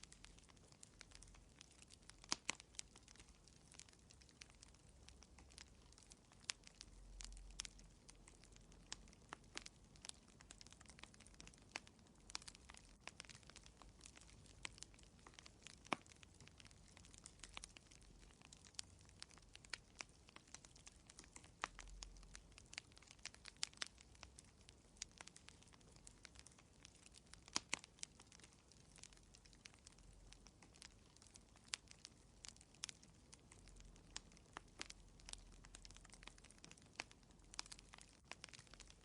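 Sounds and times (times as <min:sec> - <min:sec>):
faint low rumble: 0:00.0 - 0:39.0
wood fire crackling: 0:00.0 - 0:39.0.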